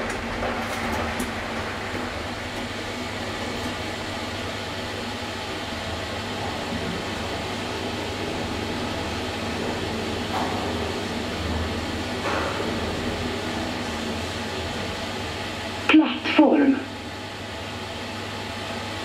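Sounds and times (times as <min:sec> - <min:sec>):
elevator hum and whirr: 0:00.0 - 0:19.0.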